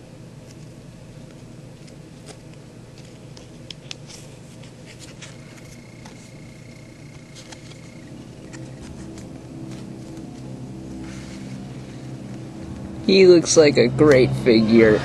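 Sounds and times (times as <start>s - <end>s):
faint high whine: 0.0s - 15.0s
low hum: 0.0s - 15.0s.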